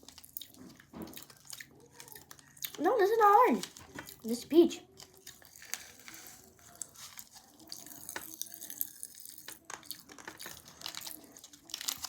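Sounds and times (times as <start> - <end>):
popping candy crackling: 0.0 - 12.0.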